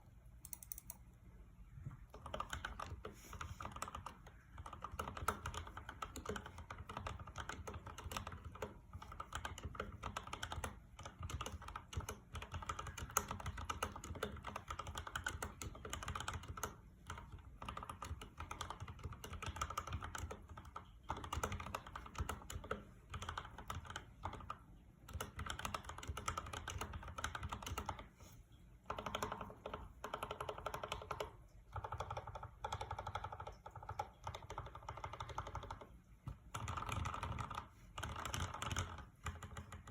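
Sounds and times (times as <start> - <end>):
mechanical keyboard typing: 0.4 - 1.0, 2.1 - 28.1, 28.8 - 39.9.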